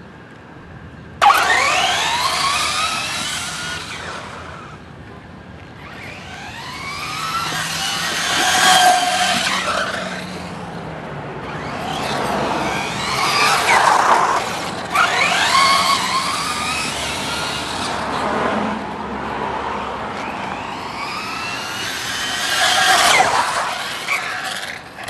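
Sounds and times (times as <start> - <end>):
electric motor whining: 1.2 - 4.9, 5.8 - 10.8, 11.4 - 18.3, 20.1 - 25.0.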